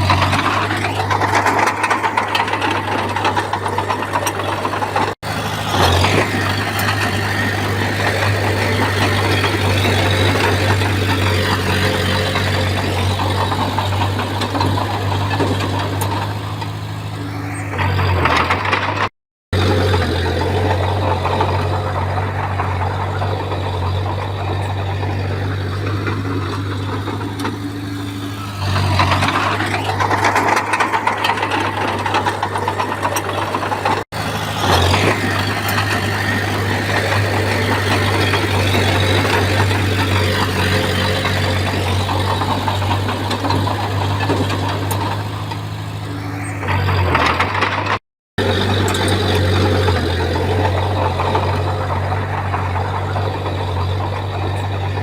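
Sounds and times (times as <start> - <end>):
bulldozer diesel engine under load: 0.0 - 55.0
soil and stone being pushed: 0.0 - 55.0.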